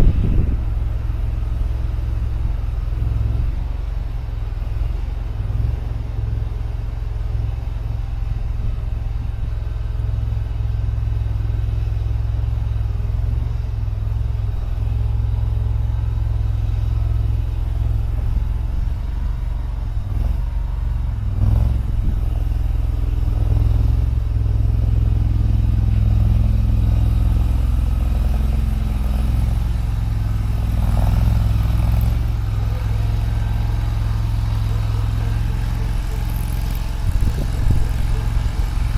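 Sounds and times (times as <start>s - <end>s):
loader engine running: 0.0s - 38.9s.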